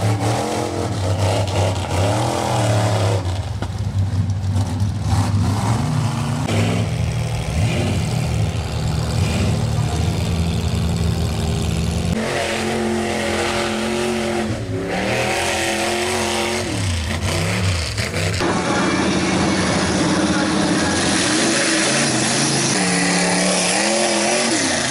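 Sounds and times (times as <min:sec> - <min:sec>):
truck engines revving: 0:00.0 - 0:24.9.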